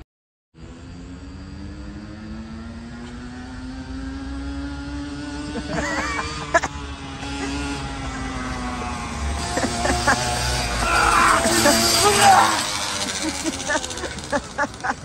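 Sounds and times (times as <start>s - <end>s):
small motorcycle engine running: 0.6s - 15.0s.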